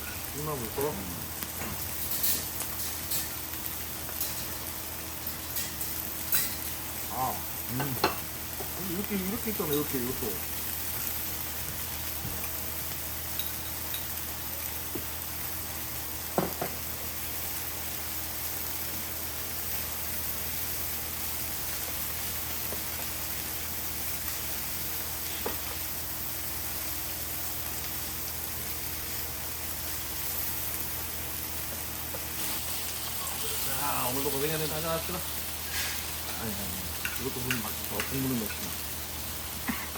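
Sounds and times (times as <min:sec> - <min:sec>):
food sizzling on a griddle: 0:00.0 - 0:39.9.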